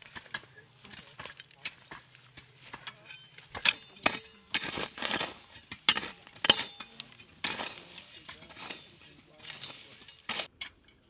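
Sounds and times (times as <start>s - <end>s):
earth scraping: 0.0s - 11.0s
metal hoe striking stony soil: 0.0s - 11.0s.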